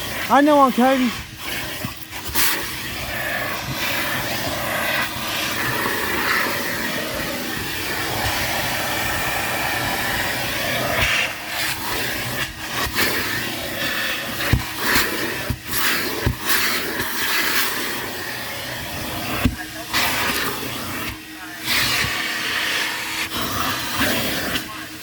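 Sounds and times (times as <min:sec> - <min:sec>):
vacuum suction rushing: 0:00.0 - 0:24.8.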